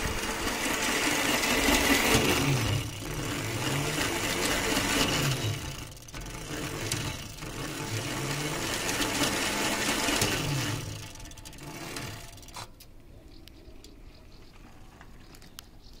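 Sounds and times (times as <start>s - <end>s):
electric motor rattly whir: 0.0s - 12.8s.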